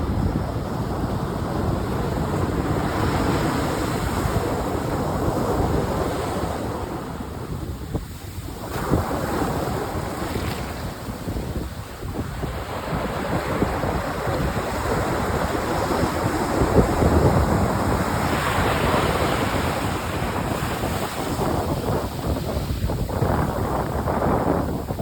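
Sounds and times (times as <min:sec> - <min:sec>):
wind buffeting microphone: 0:00.0 - 0:25.0
surf breaking on shore: 0:00.5 - 0:25.0.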